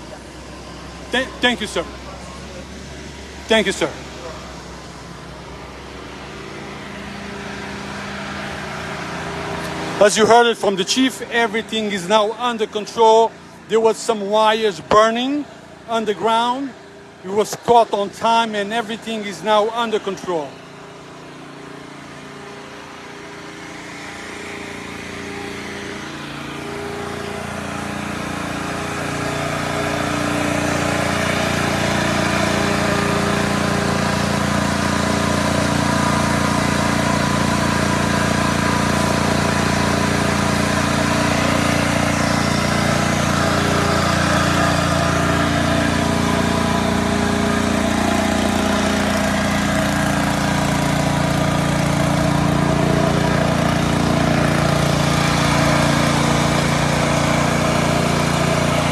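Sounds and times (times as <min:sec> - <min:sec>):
engine humming steadily: 0:00.0 - 0:58.9.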